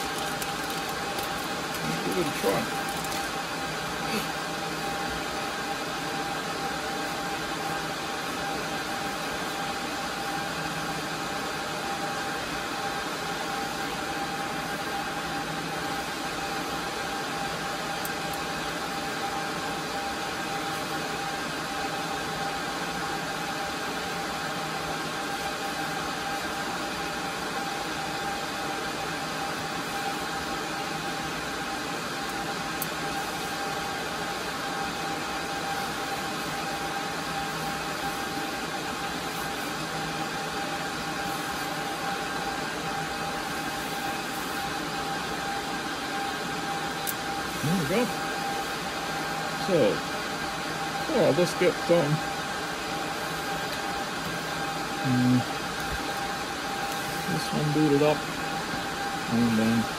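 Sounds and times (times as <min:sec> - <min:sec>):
server cooling fans humming: 0:00.0 - 0:59.9.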